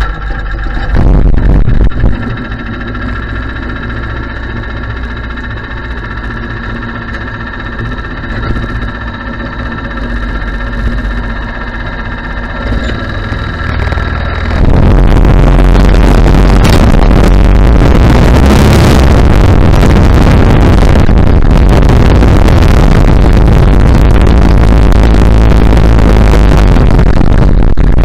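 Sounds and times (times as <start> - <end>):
small engine idling and revving: 0.0 - 28.0.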